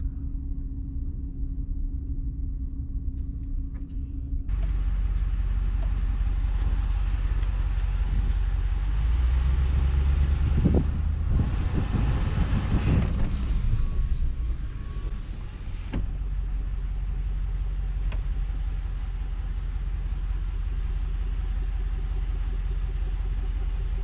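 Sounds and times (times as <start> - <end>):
rough low wind buffets: 0.0 - 24.0
truck engine and road hum: 0.0 - 24.0
wind and tyre hiss: 4.5 - 23.9.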